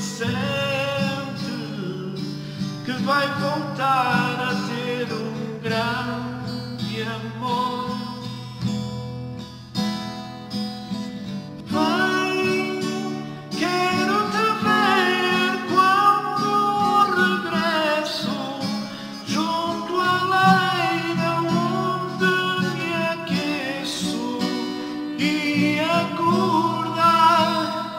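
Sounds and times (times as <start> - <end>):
man singing: 0.0 - 8.5, 11.6 - 27.9
acoustic guitar strumming: 0.0 - 27.9.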